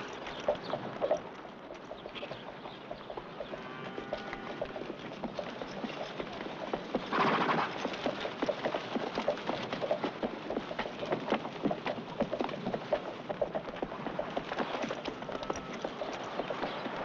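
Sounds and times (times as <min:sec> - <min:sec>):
horse hooves clopping on dirt: 0:00.0 - 0:17.0.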